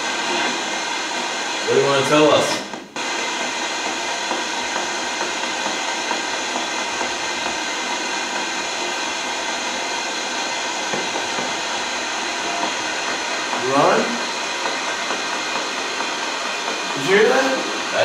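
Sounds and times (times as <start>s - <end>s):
radio static hiss: 1.6s - 18.0s.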